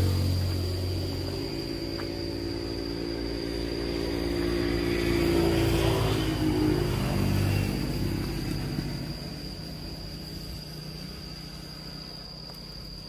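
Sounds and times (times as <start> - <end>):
vehicle engine passing by: 0.0 - 11.4.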